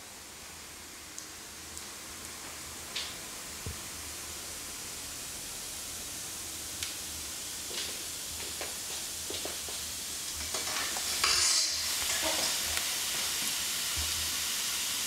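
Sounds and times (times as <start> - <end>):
room tone hiss: 0.0 - 15.0.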